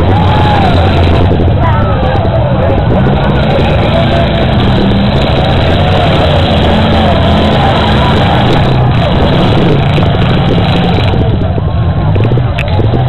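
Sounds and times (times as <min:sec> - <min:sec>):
car engines running loud: 0:00.0 - 0:13.0.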